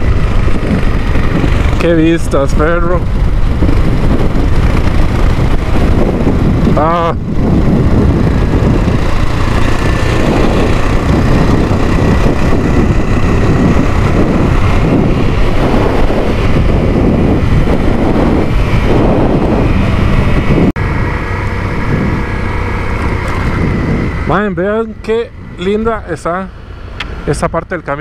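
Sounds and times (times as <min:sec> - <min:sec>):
motorcycle engine running: 0:00.0 - 0:28.0
wind rush over microphone: 0:00.0 - 0:28.0.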